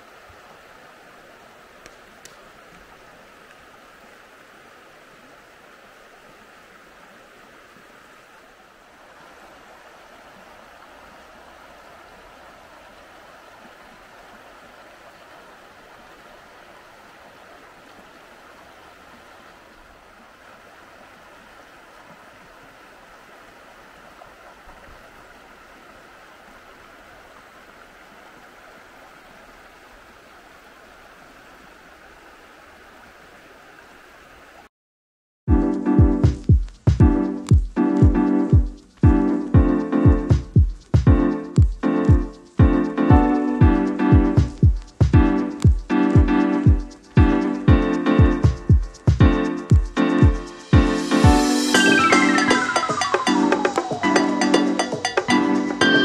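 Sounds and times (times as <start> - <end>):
river water rushing: 0.0 - 34.7, 37.2 - 56.0.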